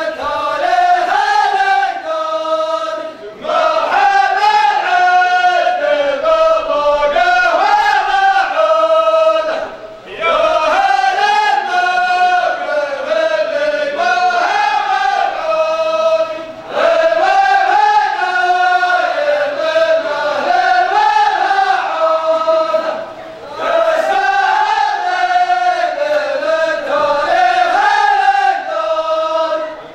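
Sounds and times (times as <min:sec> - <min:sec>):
men chanting in unison: 0:00.0 - 0:29.9.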